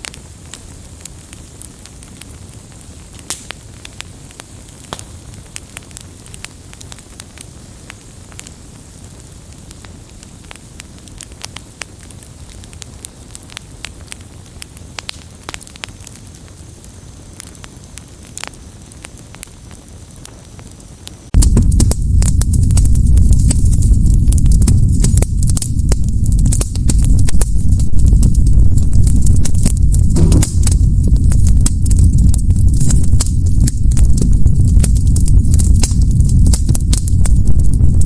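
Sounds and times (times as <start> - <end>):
flames hissing and rumbling: 0.0 - 38.0
logs crackling and popping: 0.0 - 38.0.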